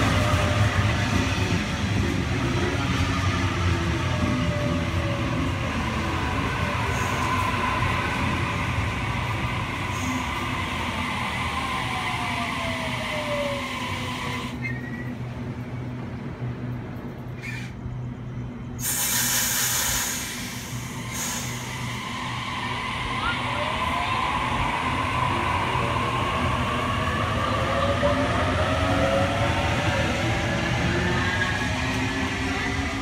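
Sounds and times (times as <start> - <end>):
electric train rumbling: 0.0 - 33.0
rush of train noise: 0.0 - 33.0.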